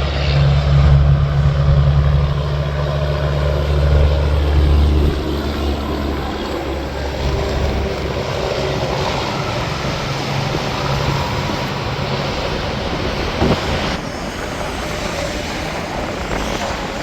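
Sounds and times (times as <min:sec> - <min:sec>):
truck engines droning: 0:00.0 - 0:17.0
tyre roar of traffic: 0:00.0 - 0:17.0.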